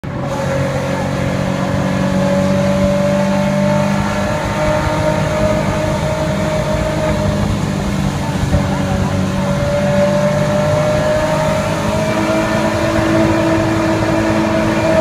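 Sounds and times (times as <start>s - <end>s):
turbocharged car engine running: 0.0s - 15.0s.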